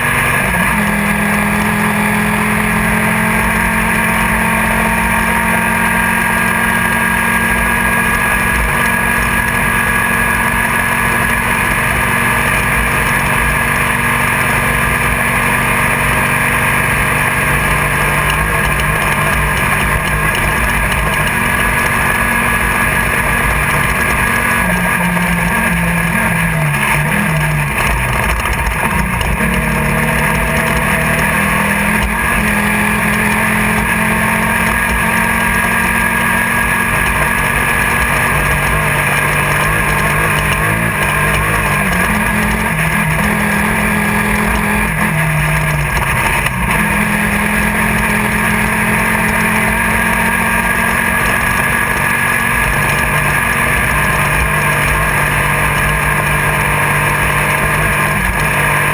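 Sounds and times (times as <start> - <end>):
race car engine running hard: 0.0 - 58.9.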